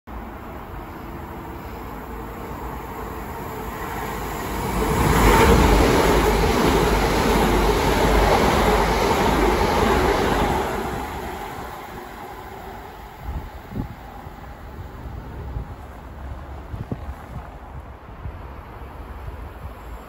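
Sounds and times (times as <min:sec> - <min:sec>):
train passing: 0:00.1 - 0:20.0.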